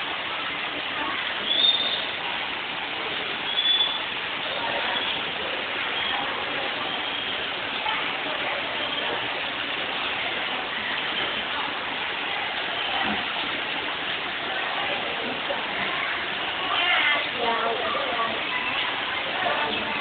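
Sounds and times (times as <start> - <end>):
heavy rain: 0.0 - 20.0
running water: 0.0 - 20.0.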